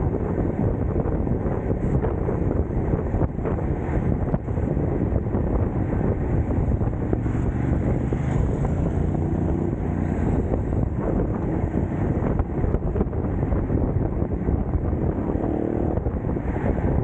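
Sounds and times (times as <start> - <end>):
faint engine hum: 0.0 - 17.0
low road rumble: 0.0 - 17.0
wind buffeting microphone: 0.0 - 17.0.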